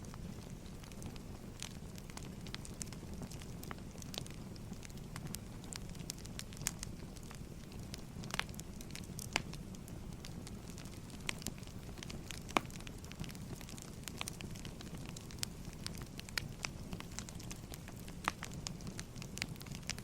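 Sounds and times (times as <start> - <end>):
fire popping: 0.0 - 20.0
wood fire rumbling: 0.0 - 20.0.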